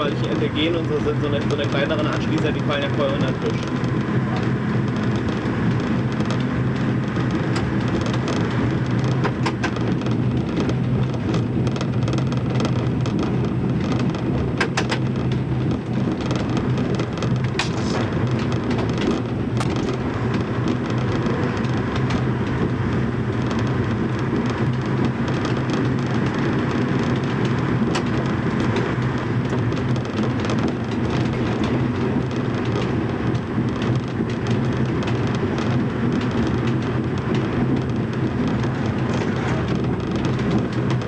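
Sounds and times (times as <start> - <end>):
diesel engine drone: 0.0 - 41.0
wheels rumbling on rails: 0.0 - 41.0.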